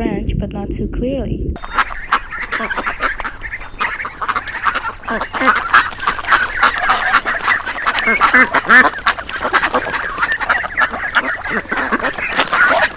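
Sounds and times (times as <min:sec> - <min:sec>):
flock of birds chattering: 0:01.6 - 0:12.9.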